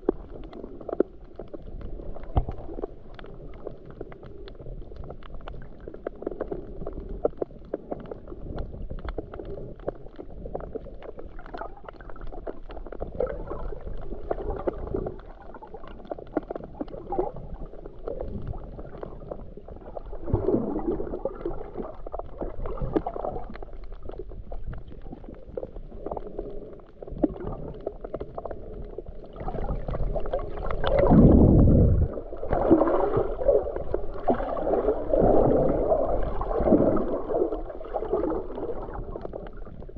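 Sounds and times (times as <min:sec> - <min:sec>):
faint underwater clicks and crackles: 0:00.0 - 0:39.9
muffled underwater rumble: 0:00.0 - 0:39.9
water gurgling: 0:00.0 - 0:39.9.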